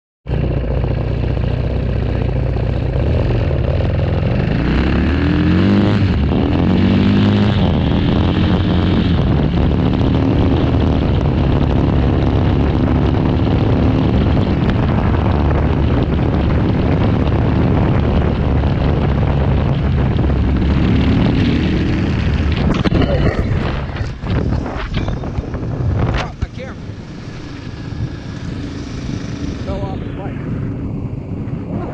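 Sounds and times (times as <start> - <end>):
dirt bike engine revving: 0.3 - 31.4
wind on microphone: 0.3 - 31.9.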